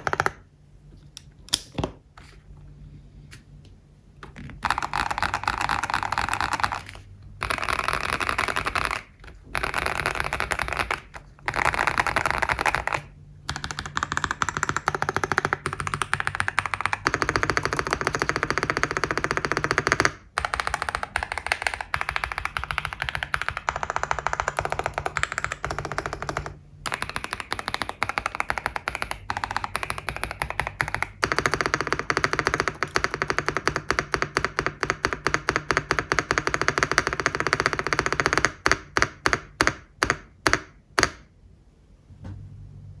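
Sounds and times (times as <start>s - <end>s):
fast typing on mechanical keyboard: 0.0s - 0.4s, 4.6s - 41.2s.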